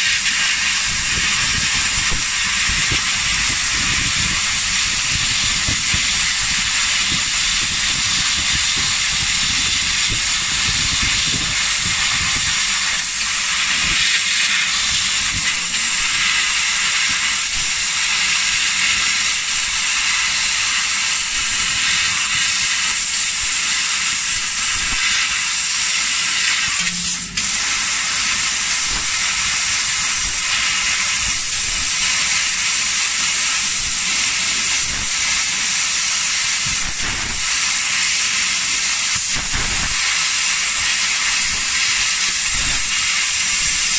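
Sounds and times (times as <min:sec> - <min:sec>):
laser cutter gas hissing: 0:00.0 - 0:43.9.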